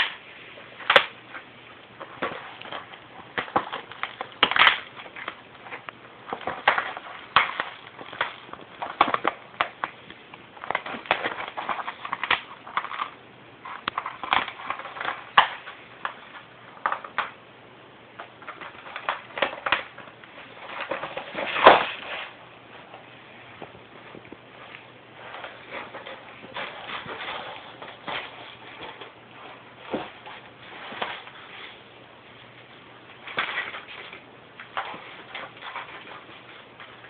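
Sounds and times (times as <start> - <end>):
kitten clawing foil mat crinkling: 0.0 - 17.4, 18.2 - 37.0.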